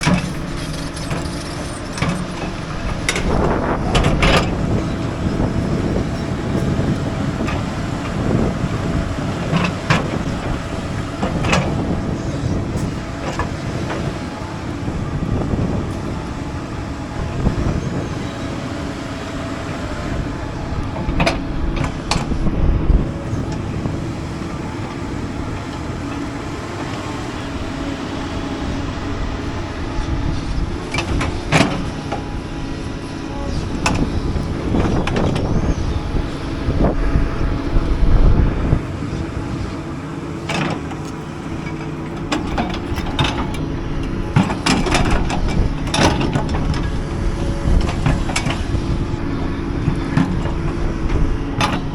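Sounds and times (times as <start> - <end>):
excavator diesel engine under load: 0.0 - 51.9.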